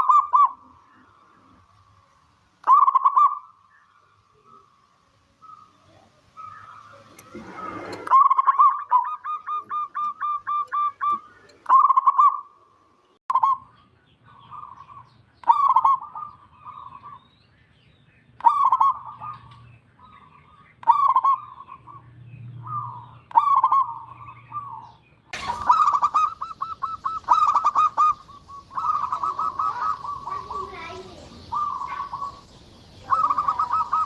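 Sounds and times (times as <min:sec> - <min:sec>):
dove cooing: 0:00.0 - 0:02.0, 0:02.6 - 0:03.6, 0:05.4 - 0:12.5, 0:14.4 - 0:17.2, 0:18.4 - 0:22.0, 0:22.6 - 0:34.0.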